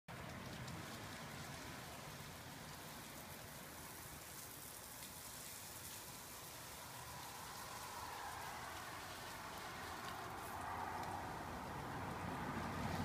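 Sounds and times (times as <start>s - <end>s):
sprinkler spray hissing: 0.4s - 13.0s.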